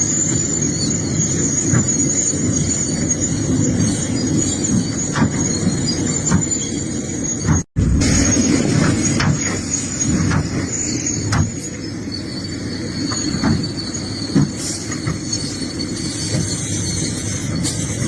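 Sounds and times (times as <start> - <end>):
diesel engine low rumble: 0.0 - 18.0
high metallic squeal: 0.0 - 18.0.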